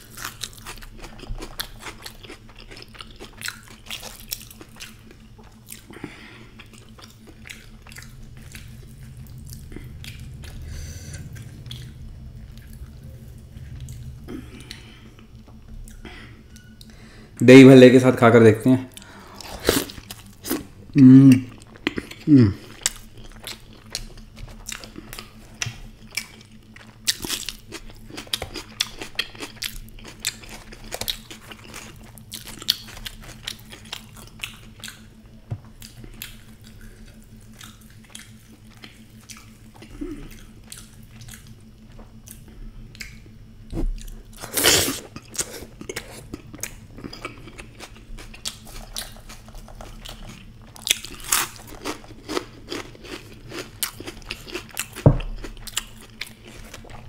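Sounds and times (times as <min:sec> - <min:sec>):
chewing and crunching: 0:00.0 - 0:17.1, 0:18.9 - 0:57.0.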